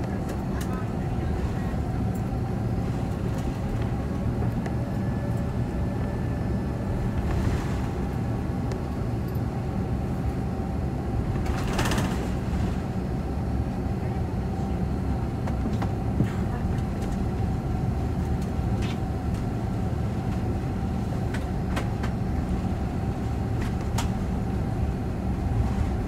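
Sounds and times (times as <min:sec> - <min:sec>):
aircraft cabin rumble: 0:00.0 - 0:26.0.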